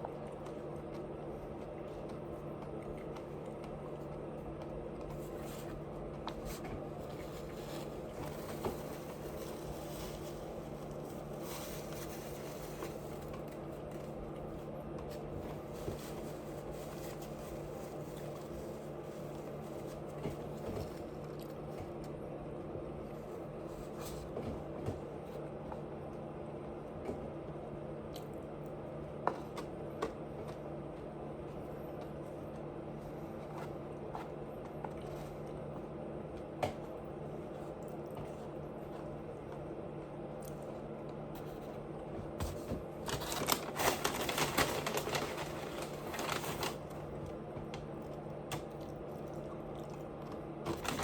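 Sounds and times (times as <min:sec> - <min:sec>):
clicks and squishes of eating: 0:00.0 - 0:51.0
low background hum: 0:00.0 - 0:51.0.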